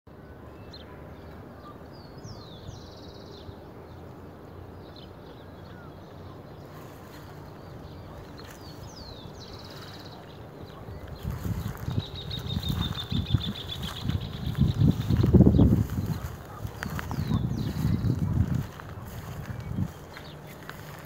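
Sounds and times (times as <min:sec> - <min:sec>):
bird song with trill: 0:00.1 - 0:21.0
low background rumble: 0:00.2 - 0:21.0.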